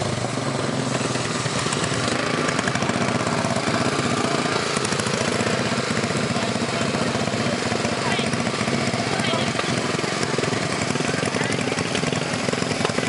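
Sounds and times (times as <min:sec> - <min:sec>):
lawn mower engines idling: 0:00.0 - 0:13.0.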